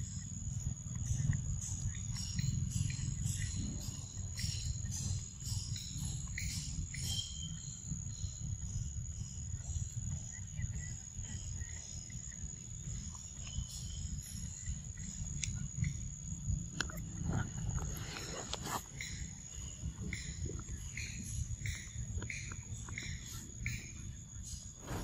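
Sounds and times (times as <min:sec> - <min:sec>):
faint chirps: 0:00.0 - 0:25.0
insects droning: 0:00.0 - 0:25.0.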